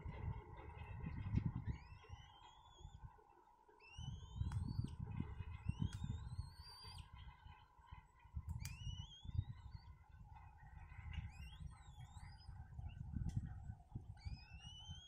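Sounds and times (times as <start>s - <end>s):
faint steady hum: 0.0s - 15.0s
wheezy whistled bird calls: 0.6s - 15.0s.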